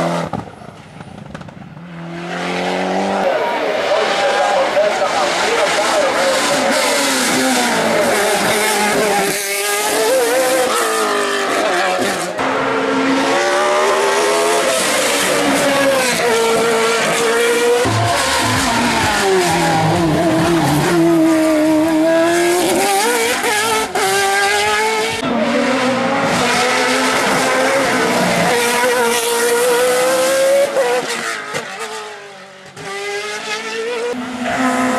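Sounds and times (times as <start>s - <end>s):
race car engine at high revs: 0.0s - 0.5s, 1.1s - 34.9s.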